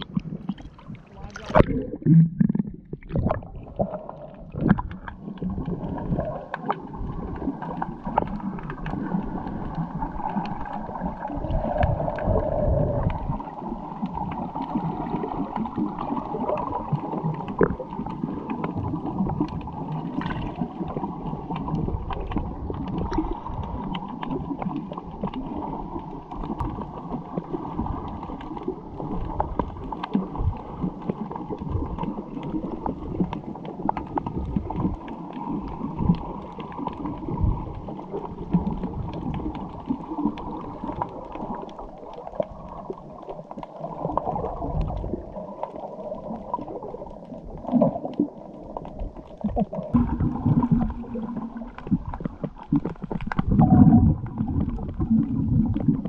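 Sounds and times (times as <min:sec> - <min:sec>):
muffled water sloshing and gurgling: 0:00.0 - 0:56.0.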